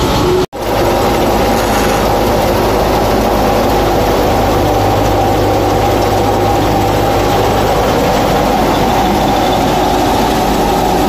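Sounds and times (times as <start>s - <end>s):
grain thresher humming: 0.0s - 11.0s.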